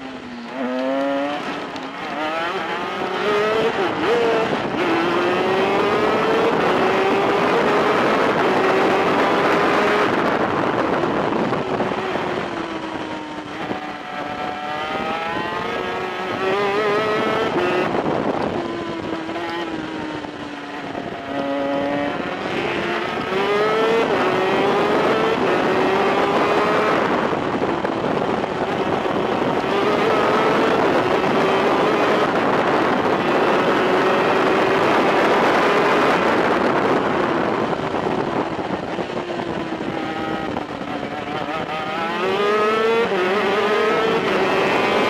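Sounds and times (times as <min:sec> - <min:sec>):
kart engine at racing speed: 0:00.0 - 0:45.0.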